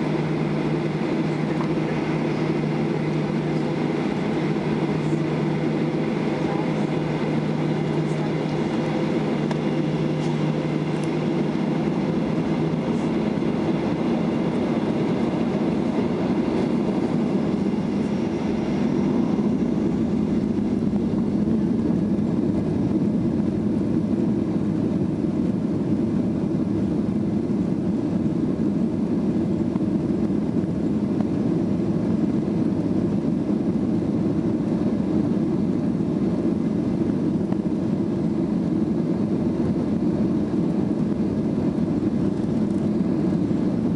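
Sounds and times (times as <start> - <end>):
faint whine: 0.0 - 43.9
jet engines roaring in cabin: 0.0 - 43.9.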